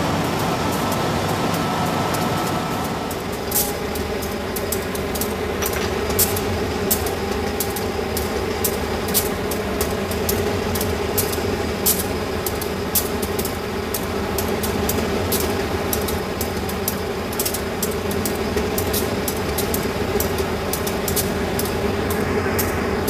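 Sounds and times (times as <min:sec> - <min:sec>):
diesel train engine hum: 0:00.0 - 0:23.0.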